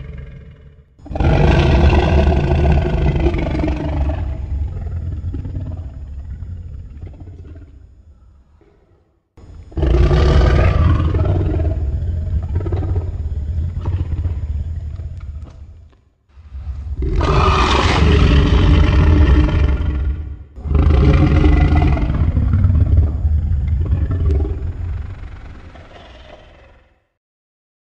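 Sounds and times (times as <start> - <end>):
monster roaring with deep rumble: 0.0 - 7.7, 9.7 - 15.4, 16.5 - 27.1.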